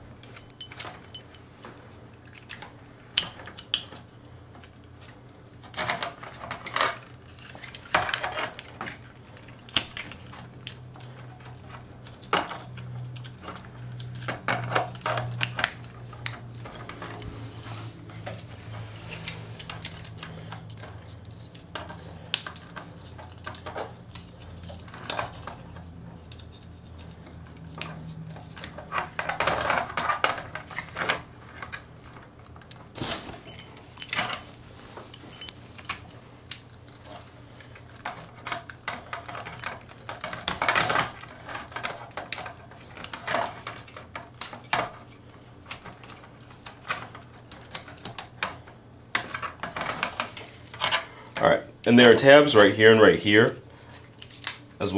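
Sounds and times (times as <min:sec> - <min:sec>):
plastic toy parts clicking and clattering: 0:02.2 - 0:17.6, 0:19.1 - 0:32.8, 0:33.4 - 0:51.5.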